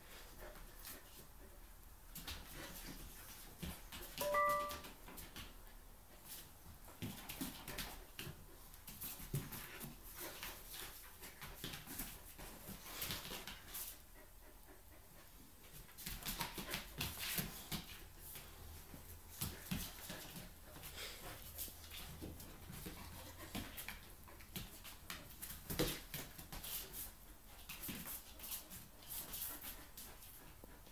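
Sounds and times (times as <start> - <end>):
dogs scuffling and paws clicking: 0.0 - 14.0, 15.1 - 30.9.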